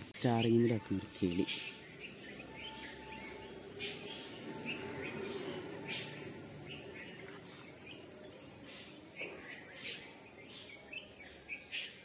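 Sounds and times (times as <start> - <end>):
bird chirps: 0.0 - 12.0
high-pitched insect drone: 0.0 - 12.0.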